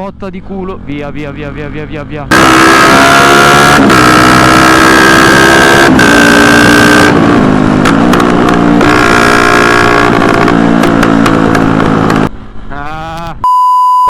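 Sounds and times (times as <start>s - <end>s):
motorcycle engine accelerating: 0.0s - 12.4s
wind and road noise: 0.0s - 13.5s.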